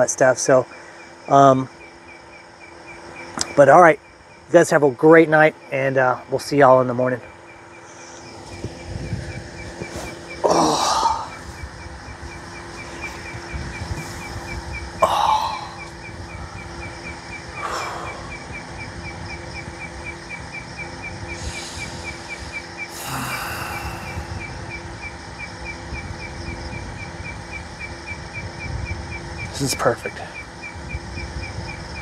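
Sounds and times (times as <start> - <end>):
insect pulsing chirp: 0.0 - 32.0
low steady hum: 0.0 - 32.0.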